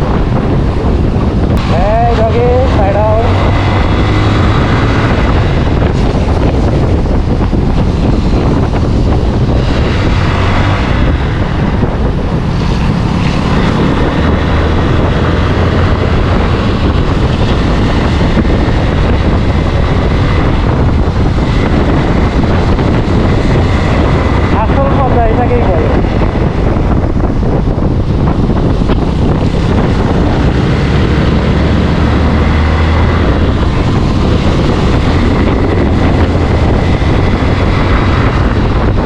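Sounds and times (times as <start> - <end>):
motorcycle engine running: 0.0 - 39.0
wind rushing on microphone: 0.0 - 39.0.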